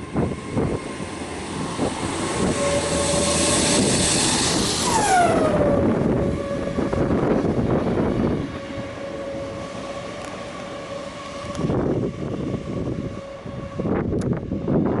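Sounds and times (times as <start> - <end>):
diesel train pulling out: 0.0 - 15.0
wind buffeting microphone: 0.0 - 15.0.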